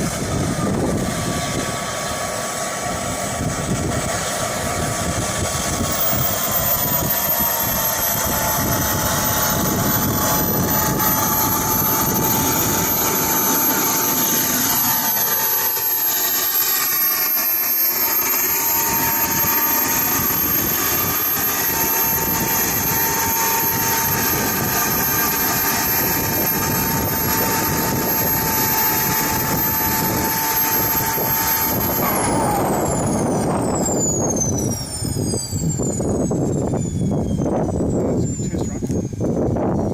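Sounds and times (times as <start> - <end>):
loud rushing noise: 0.0 - 36.8
jet turbine engine whine: 0.0 - 39.9.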